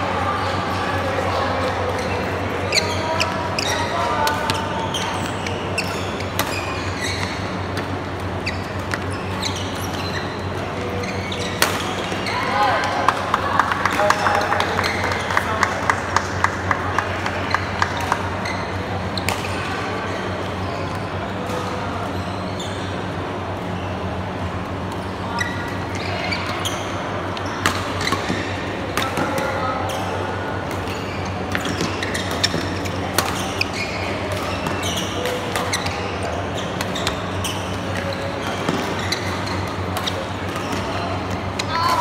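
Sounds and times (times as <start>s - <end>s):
shoes squeaking on court: 1.4s - 12.9s, 17.0s - 42.0s.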